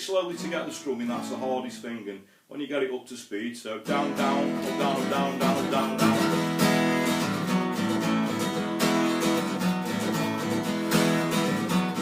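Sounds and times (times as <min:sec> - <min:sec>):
acoustic guitar strumming: 0:00.2 - 0:01.8, 0:03.8 - 0:12.0.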